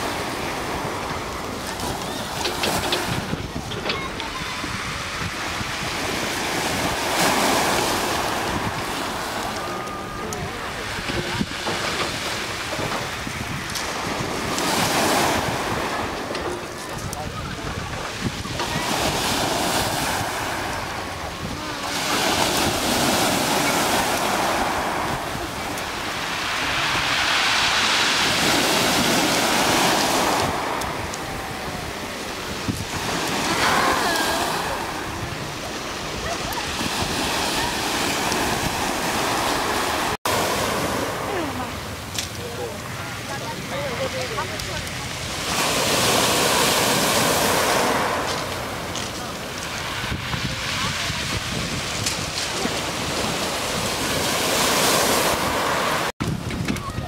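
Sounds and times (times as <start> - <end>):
waves washing up pebble beach: 0.0 - 57.0
wind buffeting microphone: 0.0 - 57.0.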